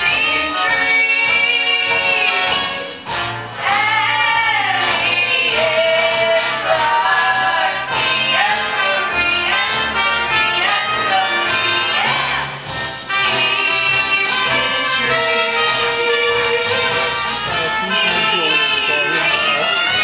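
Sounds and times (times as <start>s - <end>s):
voices singing show tune: 0.0s - 2.9s, 3.6s - 20.0s
instrumental accompaniment: 0.0s - 20.0s.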